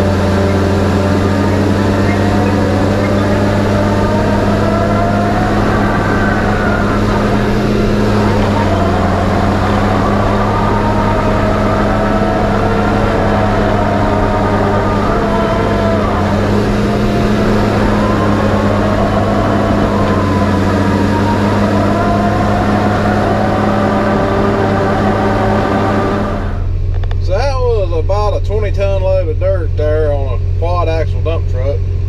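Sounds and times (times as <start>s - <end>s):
diesel engine running under load: 0.0s - 32.0s
high whine: 0.0s - 32.0s.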